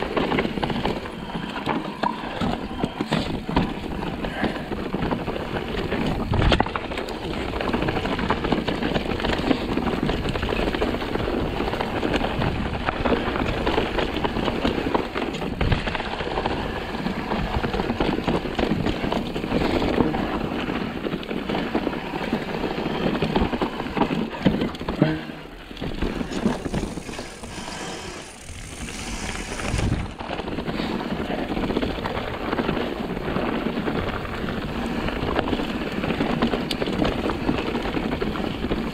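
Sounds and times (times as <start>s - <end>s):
bike rattling: 0.0s - 38.9s
bike tyres crunching over stones: 0.0s - 38.9s.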